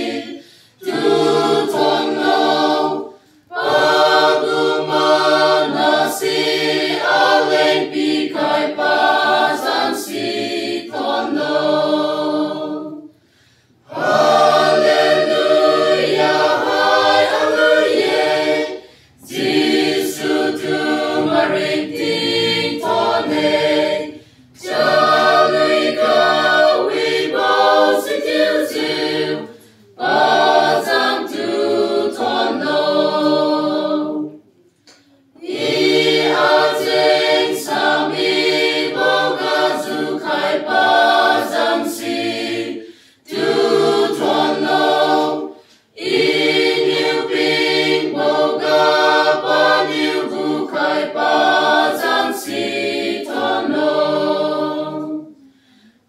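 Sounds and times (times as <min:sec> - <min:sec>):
mixed choir singing a hymn: 0:00.0 - 0:56.0.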